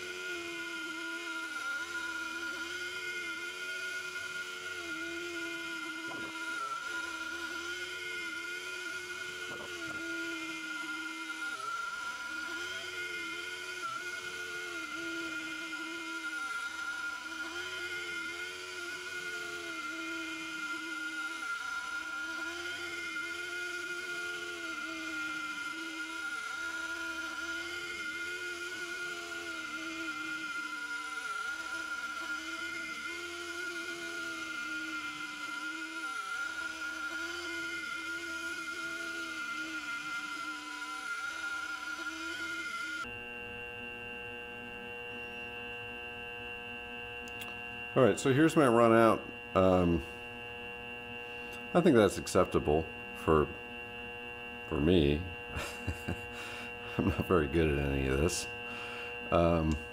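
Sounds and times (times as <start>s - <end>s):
cutter loading lower tone: 0.0s - 59.9s
mill spindle high whine: 0.0s - 59.9s.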